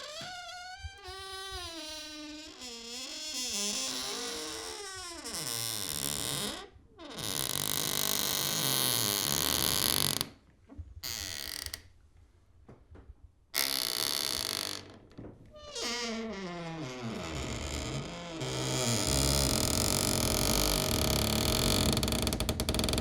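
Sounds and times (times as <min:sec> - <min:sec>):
door hinges creaking: 0:00.0 - 0:10.3, 0:13.6 - 0:23.0.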